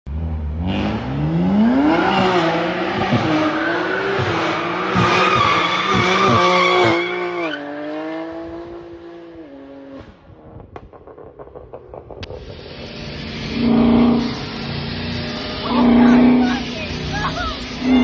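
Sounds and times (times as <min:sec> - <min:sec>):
sports car engine revving: 0:00.1 - 0:18.0.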